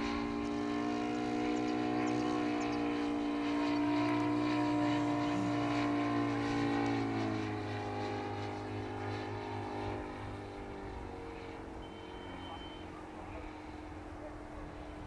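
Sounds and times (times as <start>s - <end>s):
model plane engine running: 0.0s - 15.0s.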